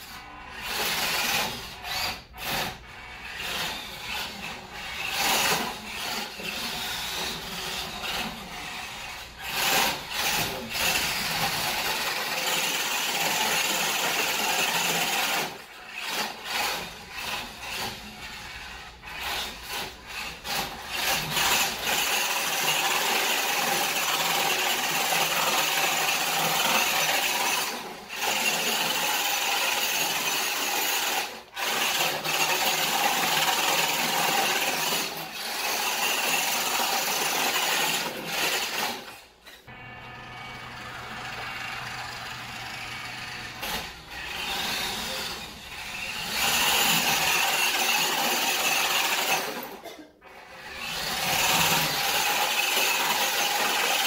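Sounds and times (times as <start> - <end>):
electric motor and gears whining: 0.0 - 32.6, 33.2 - 49.7, 50.4 - 53.9.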